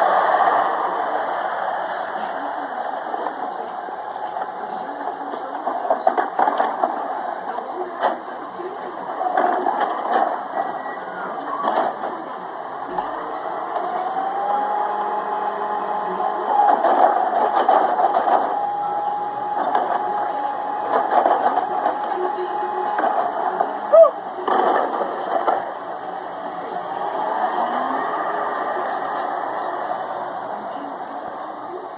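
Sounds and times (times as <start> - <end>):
garbage truck engine running: 0.0 - 31.9
hydraulic whine: 0.0 - 31.9.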